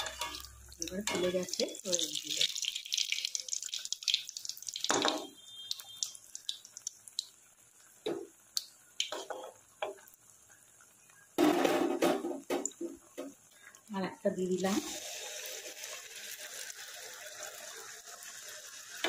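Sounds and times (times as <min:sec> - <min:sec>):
deep-frying sizzling and crackling: 0:00.0 - 0:19.0.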